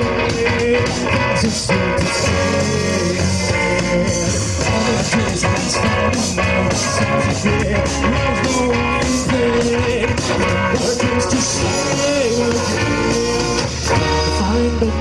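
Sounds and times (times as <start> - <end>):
drums: 0.0 - 15.0
electric guitars: 0.0 - 15.0
wavering lead guitar line: 0.0 - 15.0.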